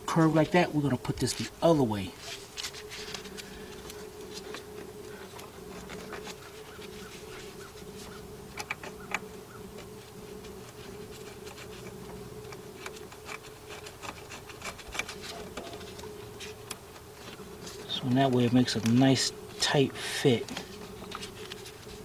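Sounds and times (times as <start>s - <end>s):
steady buzzing hum: 0.0s - 22.0s
gloved hands rubbing: 0.5s - 22.0s.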